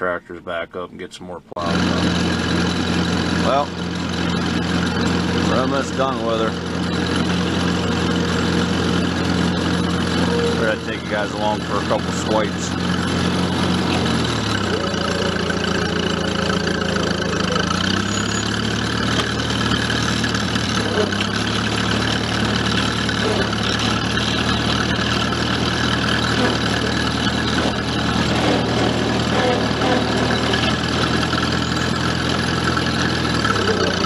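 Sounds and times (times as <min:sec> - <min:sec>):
tractor engine running: 0:01.6 - 0:34.0.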